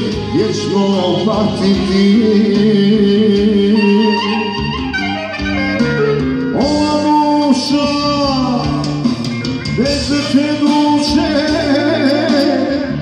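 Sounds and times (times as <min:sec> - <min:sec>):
man singing into a microphone: 0:00.0 - 0:05.0, 0:06.4 - 0:13.0
drum kit: 0:00.0 - 0:13.0
keyboard accompaniment: 0:00.0 - 0:13.0.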